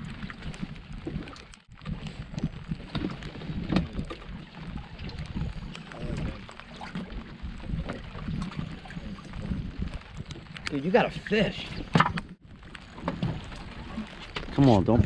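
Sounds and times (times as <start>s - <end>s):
water lapping against boat hull: 0.0s - 15.0s
wind buffeting microphone: 0.0s - 15.0s.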